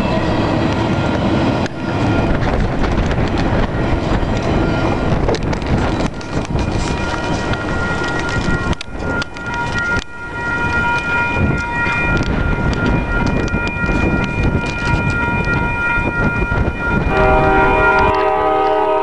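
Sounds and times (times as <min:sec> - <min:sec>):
crossing warning bell ringing: 0:00.0 - 0:19.0
wind buffeting microphone: 0:00.0 - 0:19.0.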